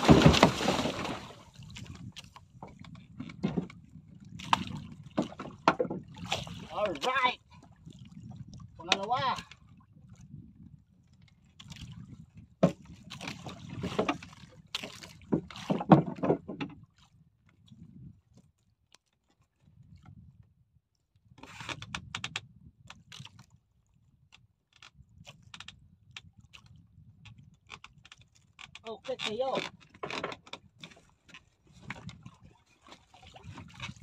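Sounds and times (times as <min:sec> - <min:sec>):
knocks and scrapes in a boat: 0:00.0 - 0:34.0.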